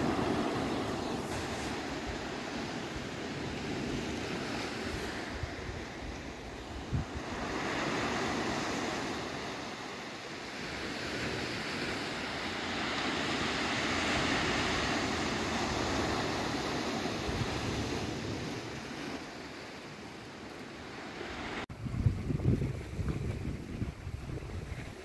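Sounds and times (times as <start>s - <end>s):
waves washing onto beach: 0.0s - 25.0s.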